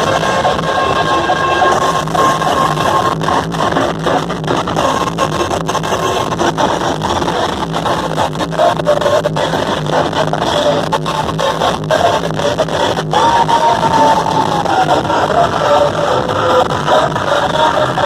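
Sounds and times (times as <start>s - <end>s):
loud music from sound systems: 0.0s - 18.0s.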